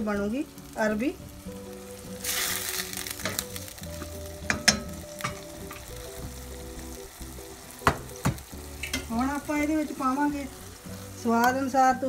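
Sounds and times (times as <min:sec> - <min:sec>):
paste sizzling in oil: 0:00.0 - 0:12.0.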